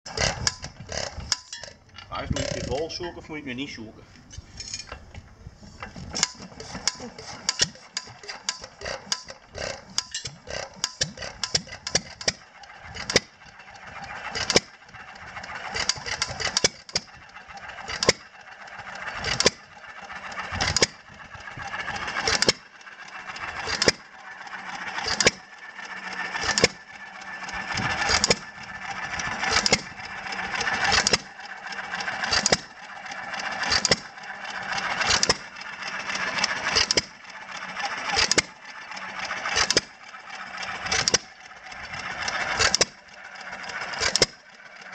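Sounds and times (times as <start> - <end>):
engine irregular clatter: 0.0 - 44.9.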